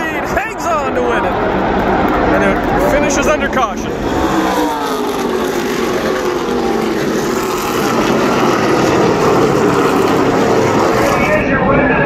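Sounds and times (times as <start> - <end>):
race truck engines passing: 0.0 - 12.0.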